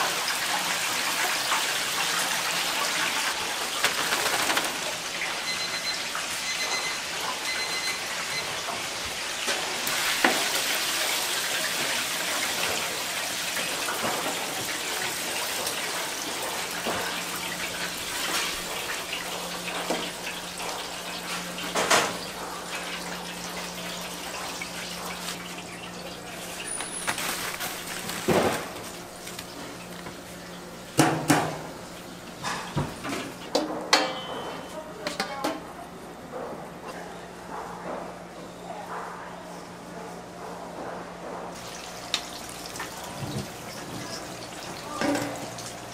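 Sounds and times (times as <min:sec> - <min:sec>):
chicken deep-frying in oil: 0:00.0 - 0:32.5, 0:41.6 - 0:45.9.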